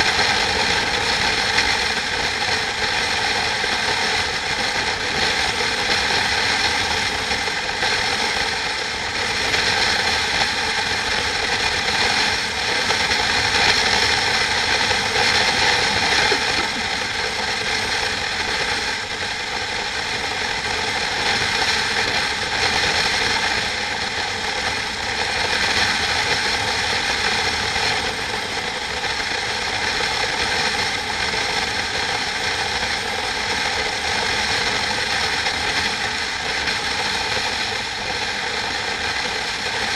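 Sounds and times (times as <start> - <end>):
machine rattling and whirring: 0.0 - 39.9.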